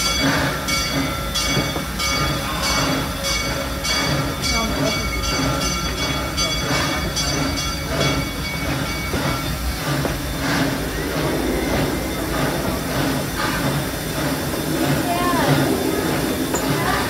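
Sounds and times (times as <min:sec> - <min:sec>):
steam train rumble: 0:00.0 - 0:17.0.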